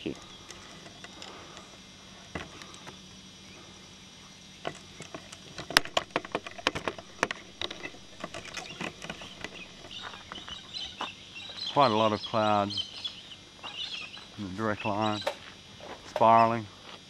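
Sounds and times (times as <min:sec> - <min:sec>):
low steady background: 0:00.0 - 0:17.0.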